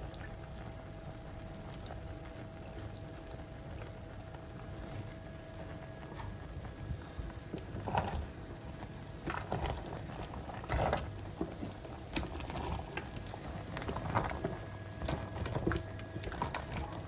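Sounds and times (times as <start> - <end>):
food stirred in cooking pot: 0.1 - 17.0.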